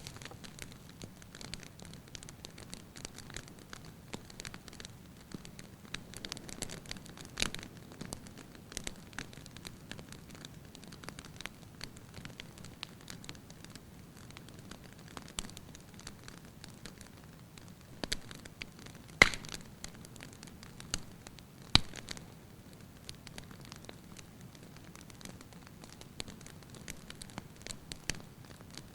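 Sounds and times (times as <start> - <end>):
firewood crackling in fireplace: 0.0 - 28.9.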